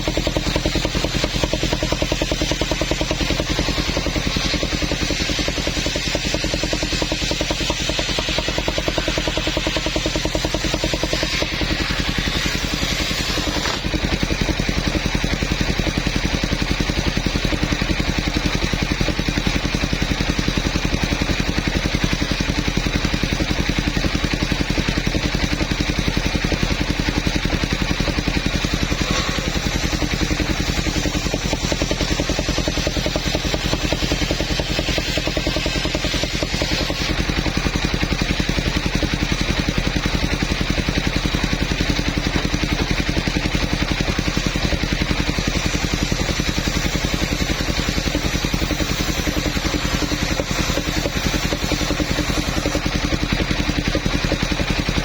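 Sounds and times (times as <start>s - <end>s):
sawmill engine chugging: 0.0s - 55.0s.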